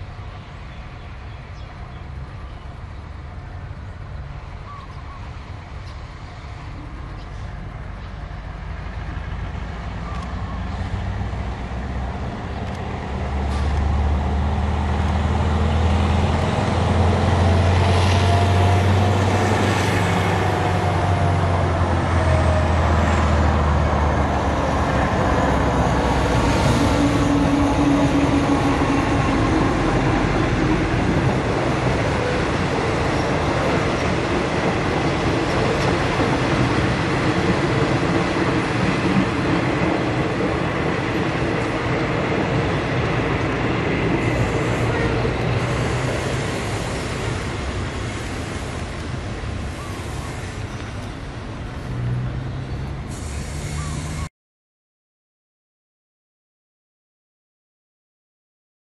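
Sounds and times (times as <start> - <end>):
locomotive engine drone: 0.0 - 54.3
train wheels on rails: 5.2 - 54.2.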